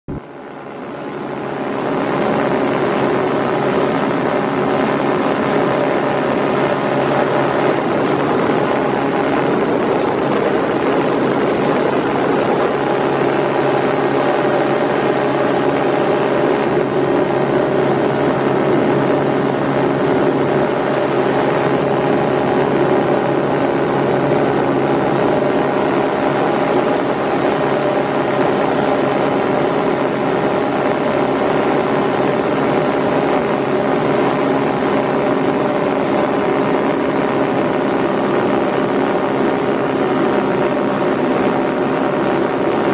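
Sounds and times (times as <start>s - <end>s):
aircraft engine and propeller drone: 0.1s - 42.9s.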